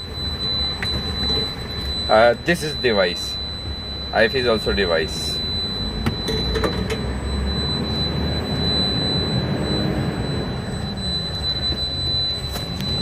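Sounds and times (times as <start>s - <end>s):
high-pitched whine: 0.0s - 13.0s
road noise: 0.0s - 13.0s
truck engine: 0.0s - 13.0s.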